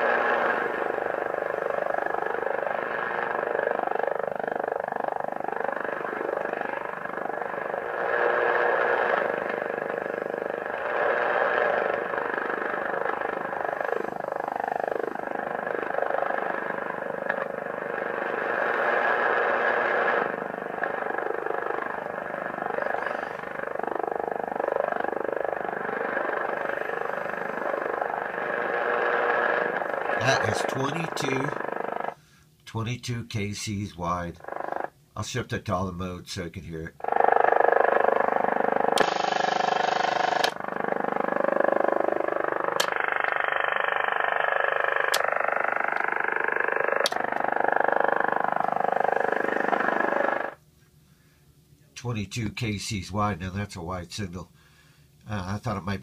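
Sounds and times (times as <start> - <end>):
rapid pulsing radio buzz: 0.0 - 32.2, 33.4 - 35.4, 36.6 - 51.4.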